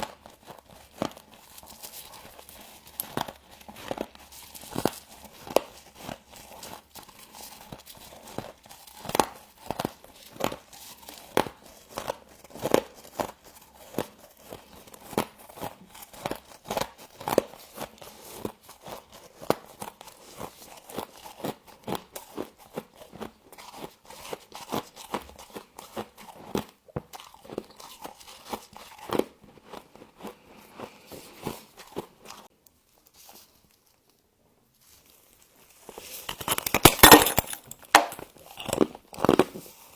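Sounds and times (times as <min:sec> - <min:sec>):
frost crunching when chewed: 0:00.0 - 0:39.9.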